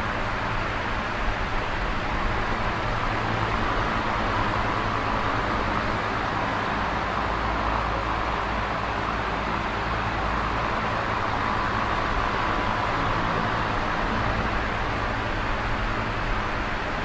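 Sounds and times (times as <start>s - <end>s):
electric fan air rush: 0.0s - 17.0s.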